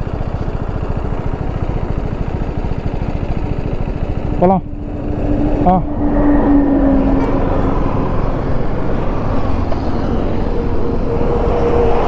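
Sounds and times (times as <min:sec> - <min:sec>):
motorcycle engine: 0:00.0 - 0:12.0
wind and road noise: 0:00.0 - 0:12.0.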